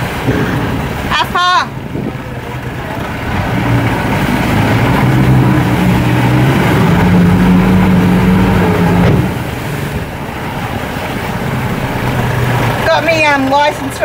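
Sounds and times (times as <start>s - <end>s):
outboard motor running: 0.0s - 14.0s
water rushing: 0.0s - 14.0s
wind: 0.0s - 14.0s.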